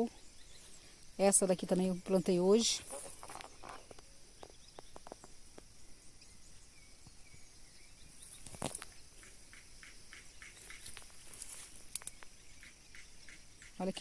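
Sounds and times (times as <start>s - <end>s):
high-pitched insect hiss: 0.0s - 14.0s.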